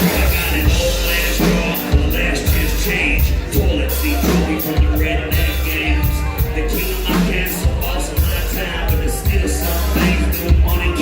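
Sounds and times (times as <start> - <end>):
lead vocal singing: 0.0 - 11.0
live band music through speakers: 0.0 - 11.0.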